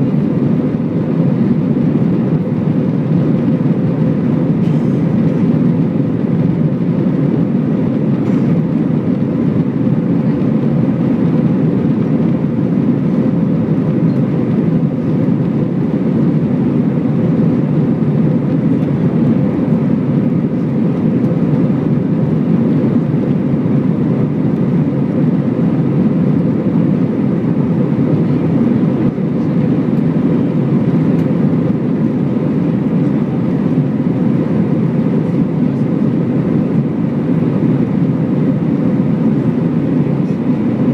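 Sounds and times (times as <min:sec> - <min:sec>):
jet engine roar in cabin: 0:00.0 - 0:40.9.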